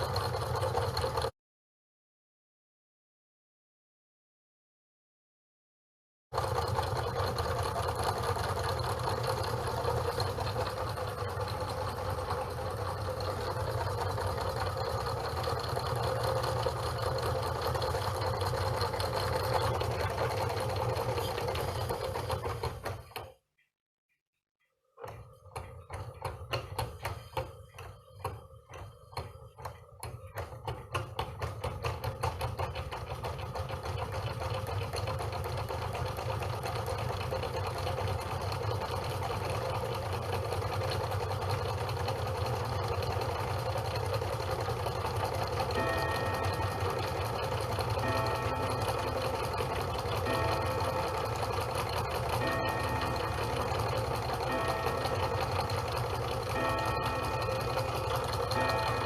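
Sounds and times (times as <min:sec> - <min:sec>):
stirling engine clatter: 0:00.0 - 0:01.3, 0:06.4 - 0:23.4, 0:24.8 - 0:59.0.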